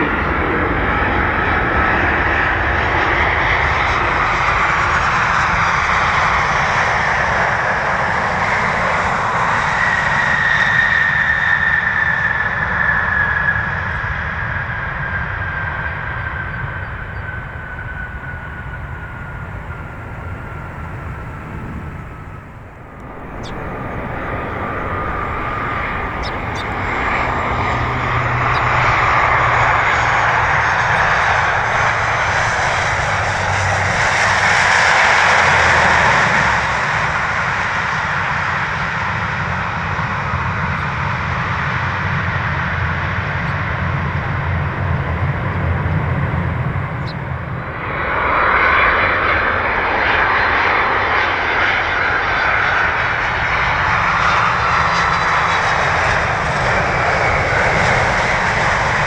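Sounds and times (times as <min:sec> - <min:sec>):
jet engines on landing approach: 0:00.0 - 0:59.0
turboprop airliner drone: 0:00.0 - 0:59.0.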